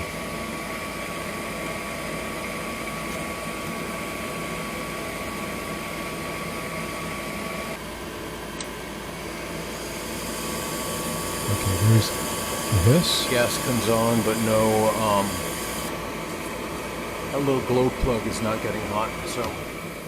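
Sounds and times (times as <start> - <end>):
furnace inducer motor whining: 0.0 - 20.0.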